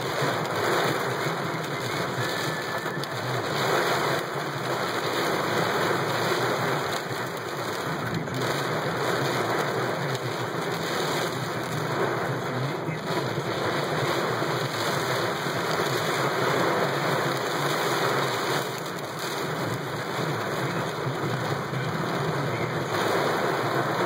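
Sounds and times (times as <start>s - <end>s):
heavy rain on a car: 0.0s - 24.0s.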